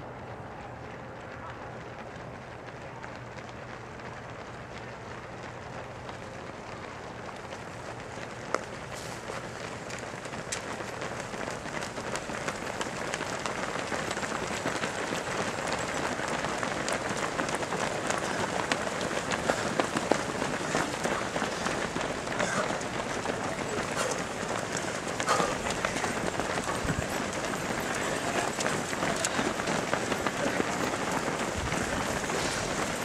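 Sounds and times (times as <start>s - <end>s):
runners' footsteps on asphalt: 0.0s - 33.0s.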